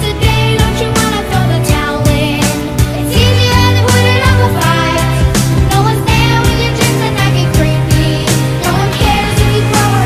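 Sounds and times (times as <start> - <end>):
sustained bass notes: 0.0 - 10.0.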